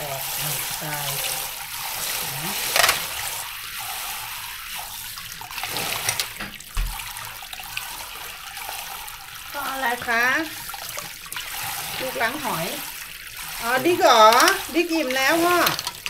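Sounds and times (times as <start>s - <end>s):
tap water running into sink: 0.0s - 16.0s.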